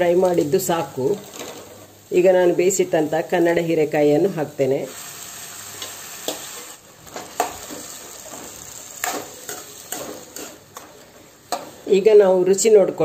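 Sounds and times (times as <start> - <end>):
food sizzling in oil: 0.0 - 12.6.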